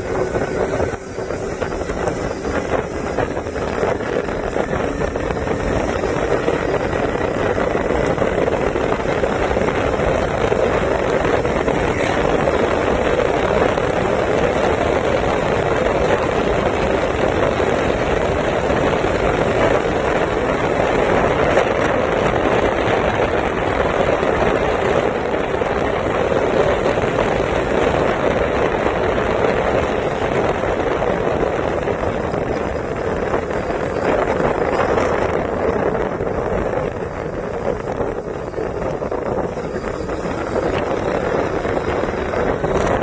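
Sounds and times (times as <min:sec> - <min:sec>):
motorbike running: 0:00.0 - 0:43.0
wind buffeting microphone: 0:00.0 - 0:43.0.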